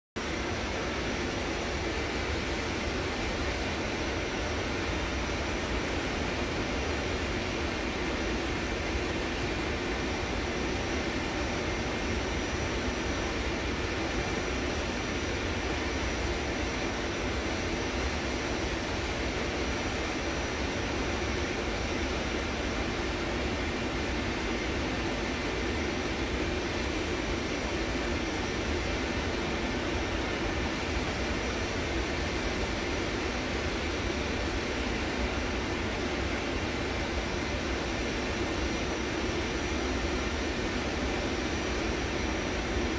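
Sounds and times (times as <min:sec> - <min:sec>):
aeroplane engines and airflow: 0:00.2 - 0:42.9
faint high whine: 0:00.2 - 0:42.9.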